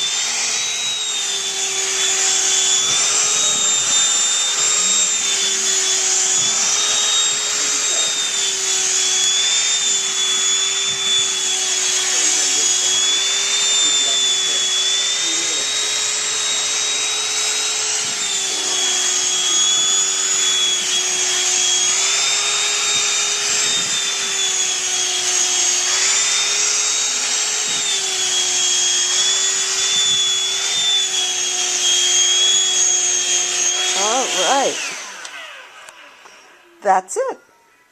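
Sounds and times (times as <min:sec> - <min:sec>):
hand vacuum motor whine: 0:00.0 - 0:37.8.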